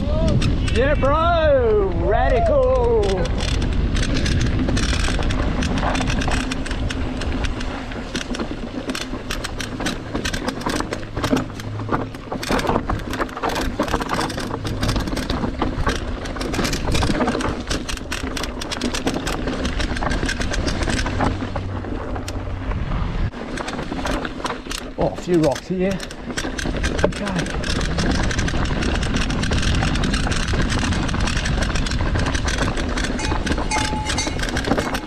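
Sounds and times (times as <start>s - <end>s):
mountain bike rattling: 0.0s - 35.0s
tyres rumbling on trail: 0.0s - 35.0s.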